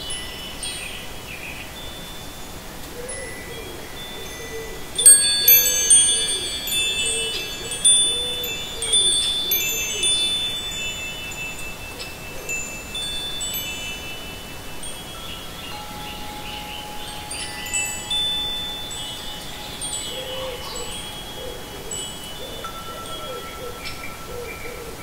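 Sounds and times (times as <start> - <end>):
wind chimes ringing: 0.0 - 25.0.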